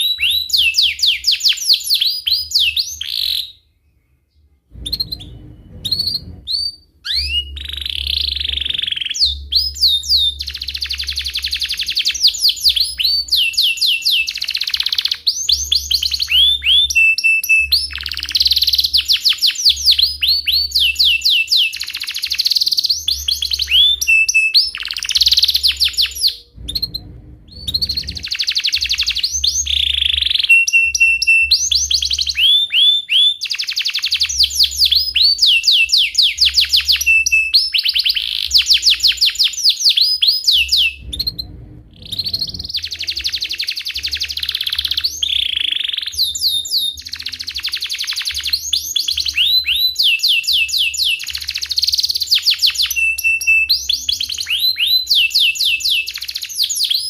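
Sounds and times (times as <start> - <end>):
canary singing chirps and trills: 0.0 - 57.0.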